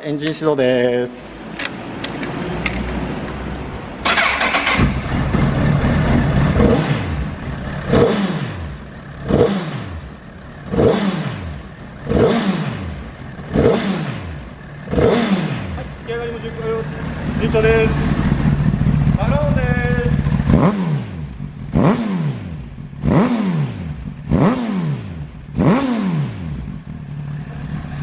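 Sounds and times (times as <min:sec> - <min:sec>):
motorcycle engine revving: 0:00.0 - 0:28.0
motorcycle engine starting: 0:00.0 - 0:28.0.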